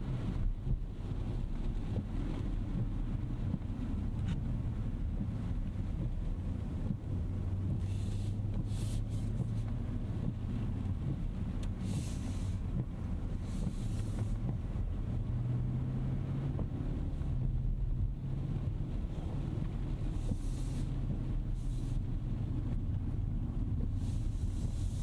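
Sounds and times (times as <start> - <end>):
car engine and tyres on wet road: 0.0 - 25.0.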